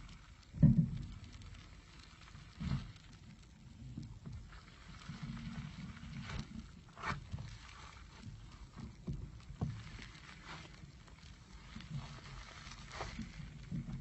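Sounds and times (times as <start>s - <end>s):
slime crackling and squishing: 0.0s - 14.0s.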